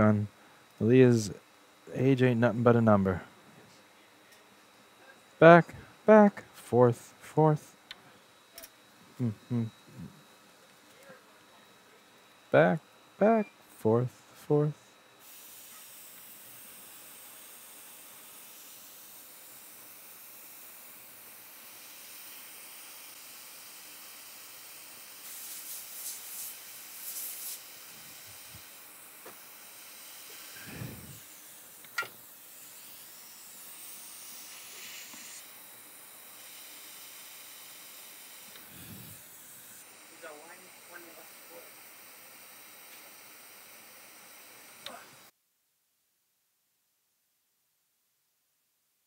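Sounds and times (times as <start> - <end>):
background hiss: 4.0 - 49.0.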